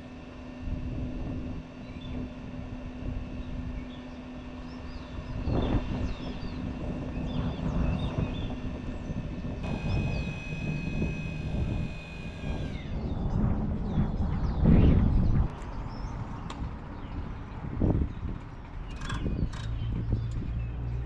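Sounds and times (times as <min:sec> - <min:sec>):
grill fan humming: 0:00.0 - 0:21.0
high fan whine: 0:00.0 - 0:21.0.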